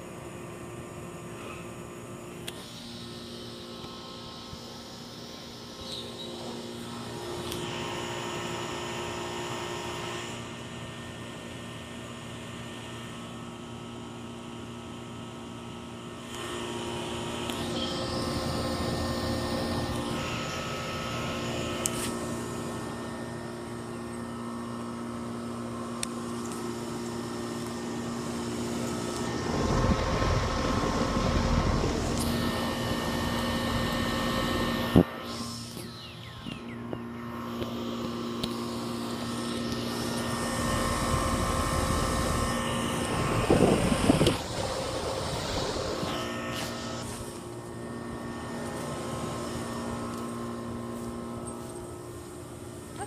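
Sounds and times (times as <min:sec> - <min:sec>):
heat pump humming with fan whoosh: 0:00.0 - 0:53.0.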